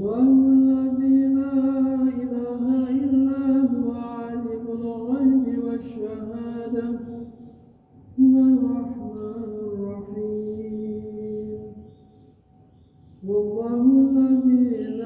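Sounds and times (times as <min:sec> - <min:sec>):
man chanting recitation: 0:00.0 - 0:07.6, 0:08.2 - 0:12.0, 0:13.2 - 0:15.0.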